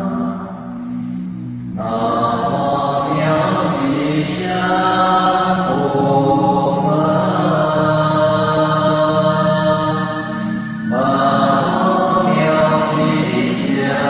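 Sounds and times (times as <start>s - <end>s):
voices chanting: 1.8s - 14.0s.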